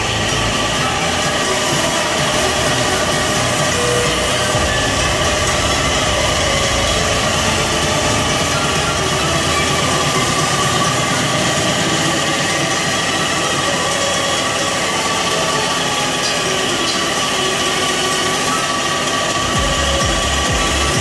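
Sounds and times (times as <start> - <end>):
continuous mechanical drone: 0.0 - 21.0.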